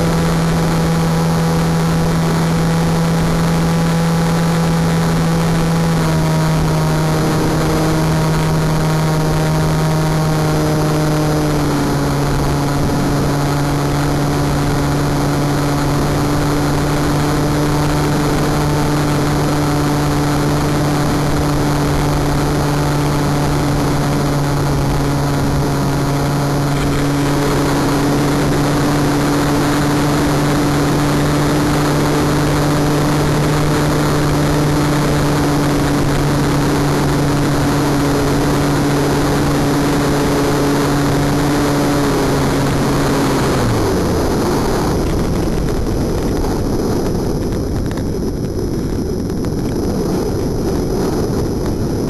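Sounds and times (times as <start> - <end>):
model plane motor and propeller: 0.0 - 52.0
wind rushing: 0.0 - 52.0.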